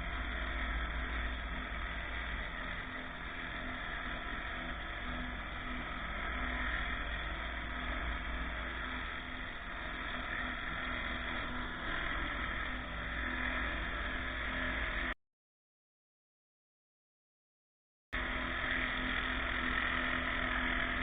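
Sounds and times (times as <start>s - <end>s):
pressure washer drone: 0.0s - 15.2s, 18.2s - 21.0s.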